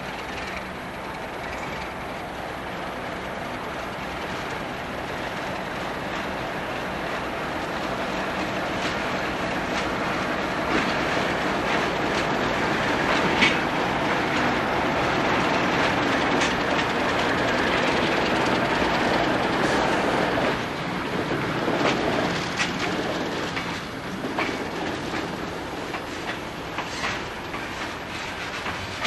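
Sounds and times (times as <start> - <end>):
freight train rumbling past: 0.0 - 29.0
wheels clicking over rail joints: 0.0 - 29.0.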